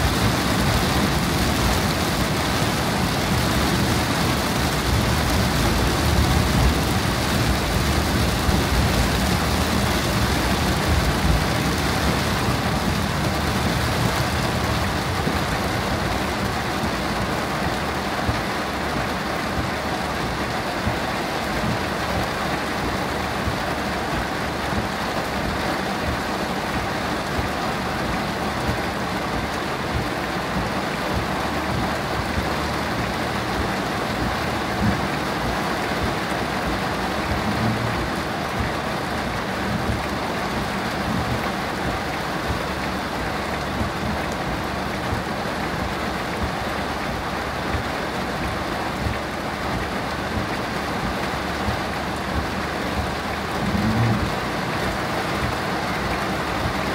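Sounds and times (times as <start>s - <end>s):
heavy rain on car roof: 0.0s - 56.9s.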